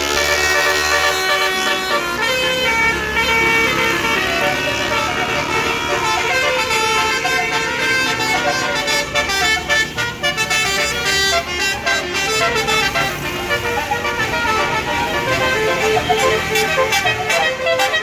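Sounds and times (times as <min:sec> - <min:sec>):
bus horn playing a melody: 0:00.0 - 0:18.0.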